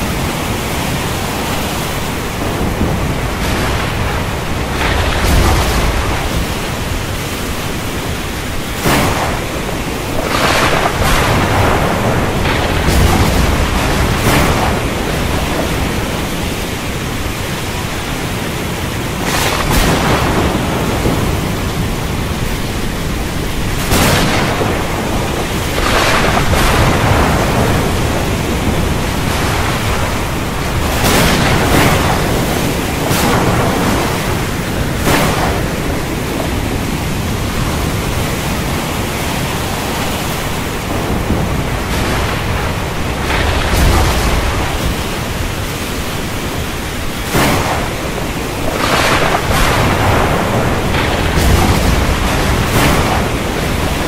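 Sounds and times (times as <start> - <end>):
thunder rumble: 0.0 - 54.0
waves breaking: 0.0 - 54.0
wind and surf rushing: 0.0 - 54.0.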